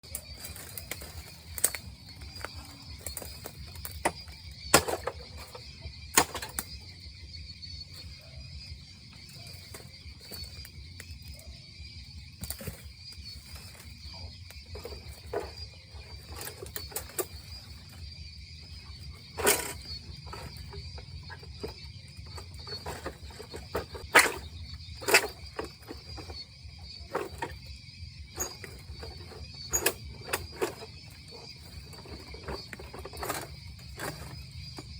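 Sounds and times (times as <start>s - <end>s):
high drone of insects: 0.0s - 34.9s.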